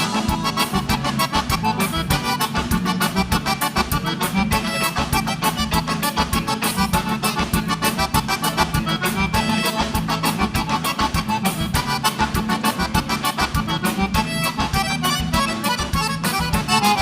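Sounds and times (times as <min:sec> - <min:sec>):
accordion melody: 0:00.0 - 0:17.0
low bass notes: 0:00.0 - 0:17.0
quick steady beat: 0:00.0 - 0:17.0.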